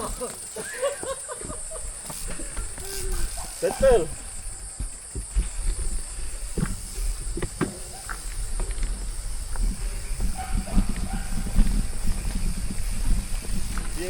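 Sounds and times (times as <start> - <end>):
high-pitched insect drone: 0.0 - 14.0
mountain bike knocks and clicks: 0.0 - 14.0.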